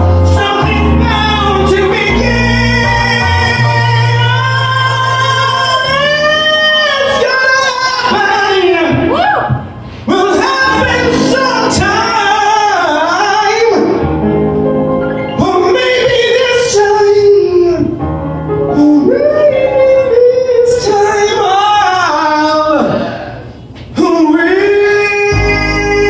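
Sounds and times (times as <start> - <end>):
man singing with vibrato: 0.0 - 14.2, 15.2 - 18.0, 18.6 - 26.0
backing track over speakers: 0.0 - 26.0.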